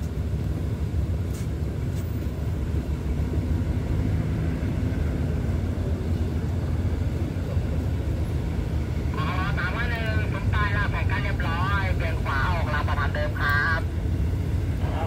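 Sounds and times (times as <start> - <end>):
train coaches rumbling past: 0.0 - 15.0.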